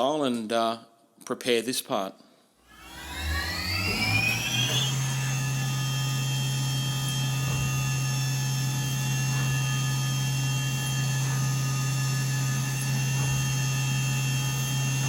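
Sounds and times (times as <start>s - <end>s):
mill spindle whine: 2.7s - 15.0s
steady hum: 2.7s - 15.0s.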